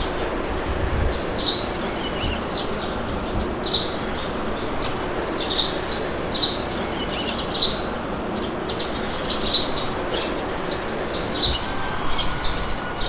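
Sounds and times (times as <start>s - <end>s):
birds chirping: 0.0s - 13.0s
wind: 0.0s - 13.0s.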